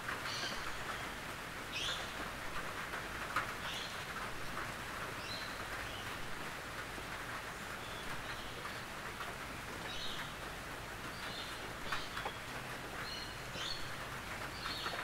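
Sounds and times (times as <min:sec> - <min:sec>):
rain on a tin roof: 0:00.0 - 0:15.0.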